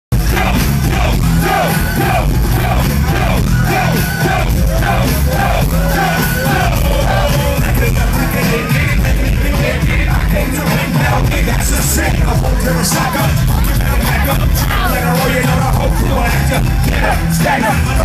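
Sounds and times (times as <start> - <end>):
crowd yelling and cheering: 0.1 - 18.0
loud hip-hop music with bass: 0.1 - 18.0
voices over music: 0.2 - 18.0.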